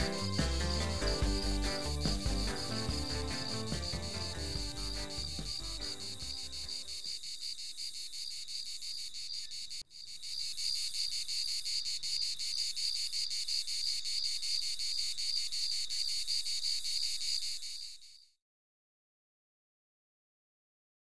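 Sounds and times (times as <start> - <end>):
insects chirring: 0.0 - 18.4.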